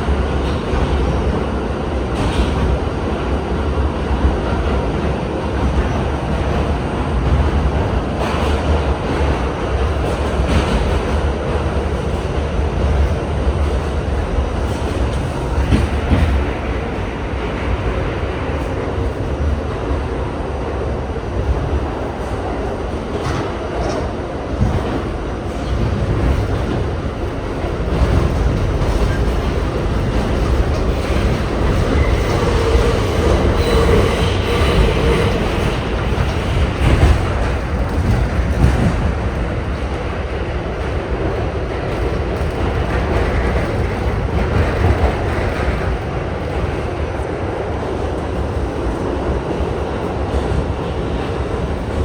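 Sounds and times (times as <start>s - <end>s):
train wheel clatter: 0.0s - 20.2s, 21.4s - 52.0s
subway train rumbling: 0.0s - 52.0s.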